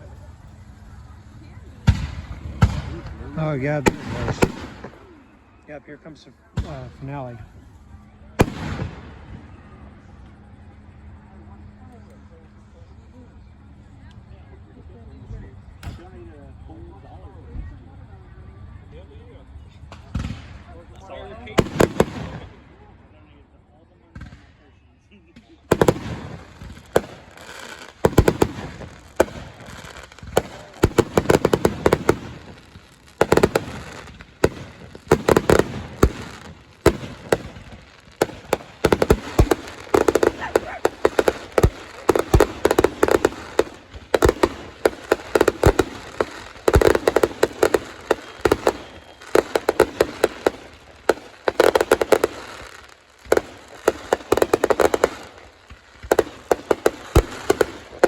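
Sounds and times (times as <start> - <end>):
fireworks cracking and banging: 0.0 - 11.3, 19.8 - 20.8, 21.4 - 22.9, 24.1 - 24.6, 25.3 - 58.0.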